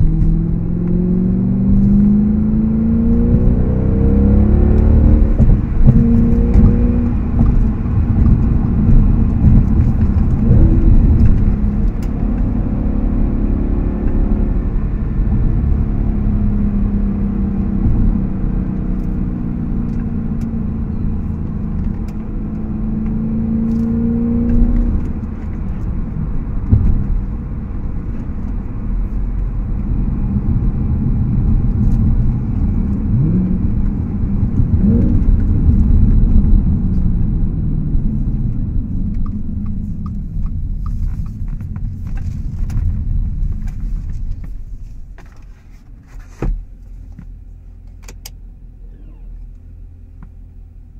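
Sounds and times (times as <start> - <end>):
car engine accelerating: 0.0 - 45.0, 46.6 - 50.9.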